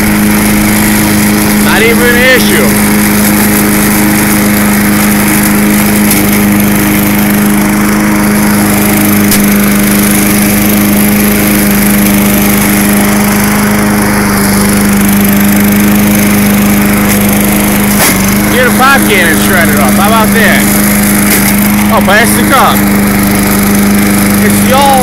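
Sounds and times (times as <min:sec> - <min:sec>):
lawn mower engine running: 0:00.0 - 0:25.0
mower over dry leaves: 0:00.0 - 0:25.0.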